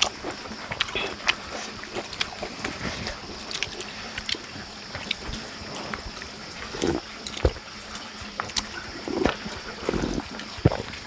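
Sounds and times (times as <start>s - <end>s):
chewing clicks and smacks: 0.0s - 11.0s.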